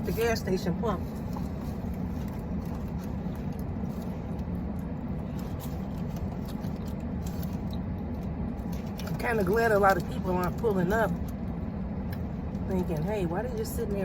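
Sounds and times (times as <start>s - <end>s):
faint clicks and rustles: 0.0s - 14.0s.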